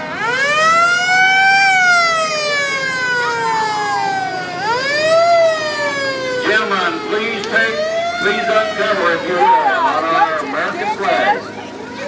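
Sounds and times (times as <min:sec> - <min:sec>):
fire truck siren wailing: 0:00.0 - 0:11.6.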